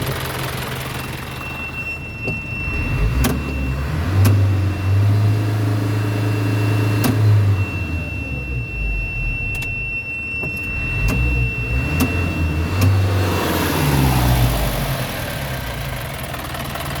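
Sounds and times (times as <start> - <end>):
truck engine idling: 0.0 - 17.0
high-pitched tone: 0.8 - 16.0.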